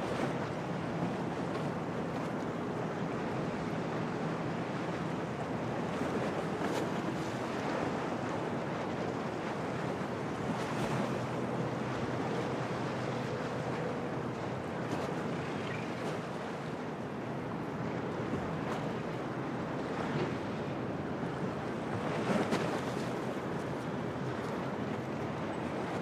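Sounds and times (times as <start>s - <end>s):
waves washing against harbour: 0.0s - 26.0s.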